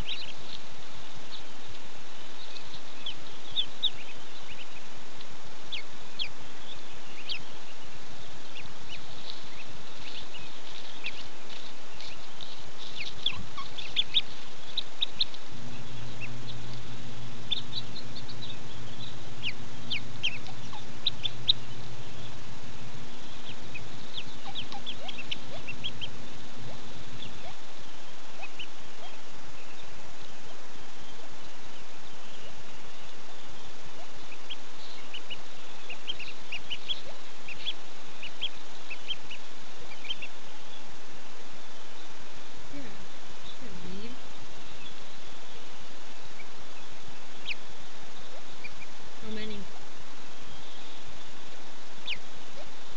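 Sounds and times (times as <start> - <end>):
ducklings peeping: 0.0 - 52.9
low steady hum: 0.0 - 52.9
steady hiss: 0.0 - 52.9.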